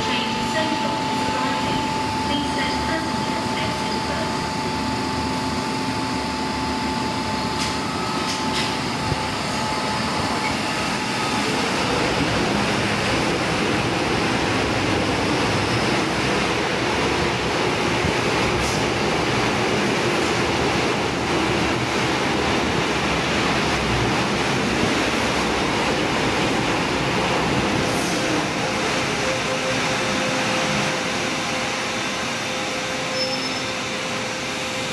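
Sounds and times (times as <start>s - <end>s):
electric train running past: 0.0s - 34.9s.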